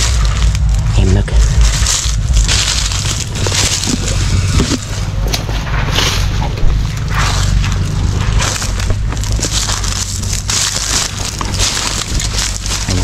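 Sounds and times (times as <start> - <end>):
brush crunching underfoot: 0.0 - 13.0
excavator diesel engine drone: 0.0 - 13.0.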